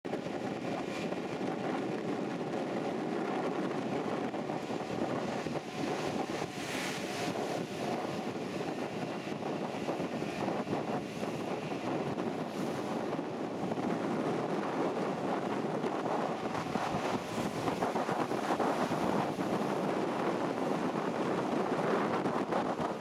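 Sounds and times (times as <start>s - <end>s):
wind on microphone: 0.0s - 23.0s
rushing water: 2.6s - 23.0s.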